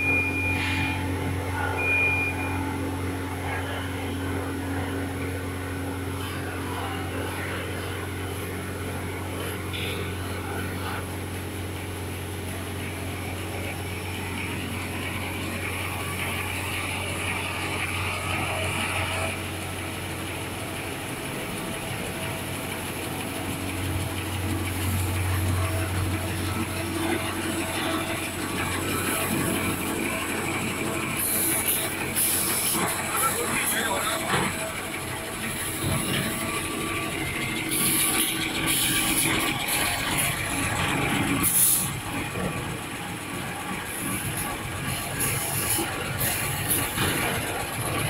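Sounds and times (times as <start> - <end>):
factory machinery humming: 0.0 - 48.0.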